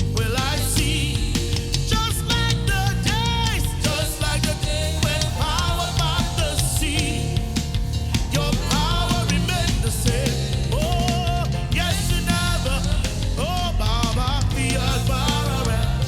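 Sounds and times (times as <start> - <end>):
live worship band: 0.0 - 16.0
steady drum beat: 0.0 - 16.0.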